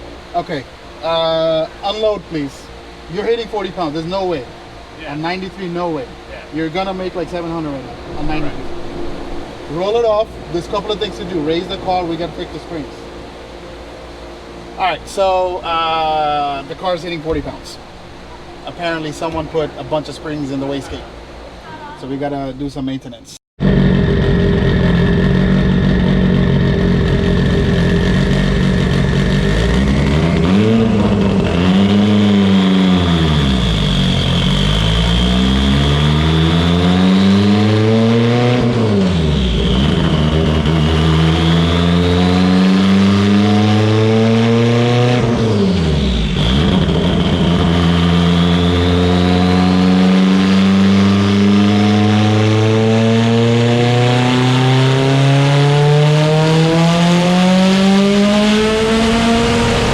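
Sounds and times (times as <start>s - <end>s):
car engine revving: 0.0s - 21.4s, 23.6s - 59.9s
turbo whine: 0.0s - 22.7s, 23.6s - 59.9s.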